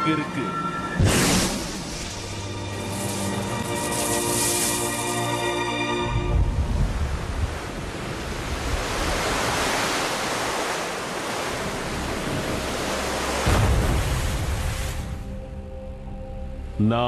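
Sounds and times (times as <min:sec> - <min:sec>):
wind: 0:00.0 - 0:16.8
surging waves: 0:00.6 - 0:15.2.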